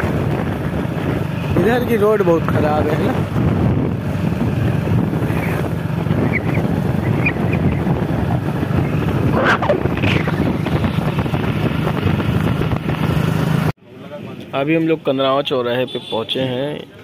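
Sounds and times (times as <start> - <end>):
motorcycle engine running: 0.0 - 13.7
wind rushing over microphone: 0.0 - 13.7.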